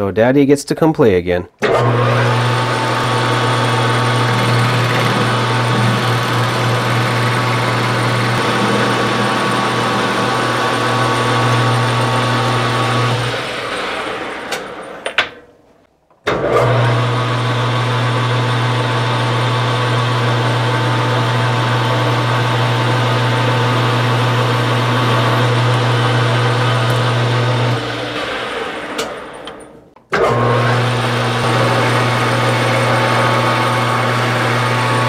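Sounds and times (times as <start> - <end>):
metal lathe running: 1.6 - 15.1, 16.4 - 35.0.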